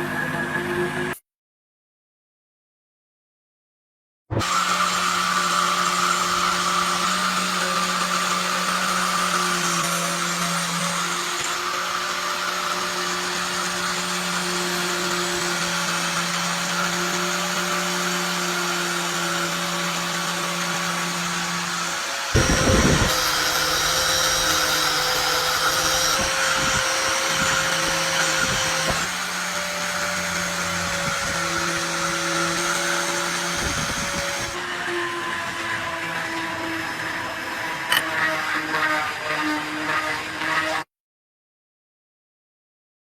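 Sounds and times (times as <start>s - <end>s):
electric power tool running: 4.4s - 40.7s.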